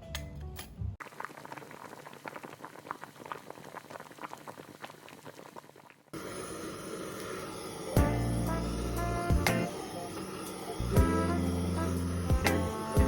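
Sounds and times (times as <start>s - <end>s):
food bubbling in a pan: 1.0s - 13.0s
steady cooking hiss: 1.0s - 13.0s.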